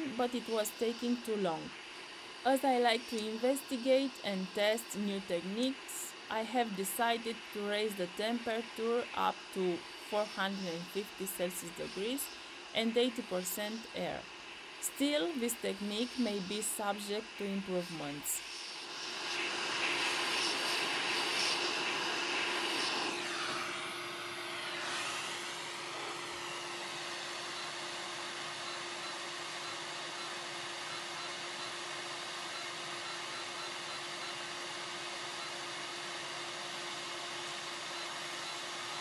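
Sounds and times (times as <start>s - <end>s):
faint hum: 0.0s - 39.0s
hot air blower hissing: 0.0s - 39.0s.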